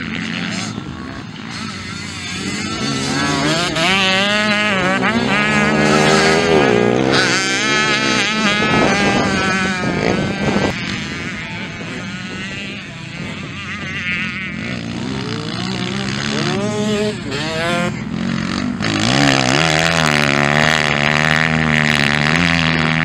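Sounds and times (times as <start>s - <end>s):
motocross bikes revving: 0.0s - 23.0s.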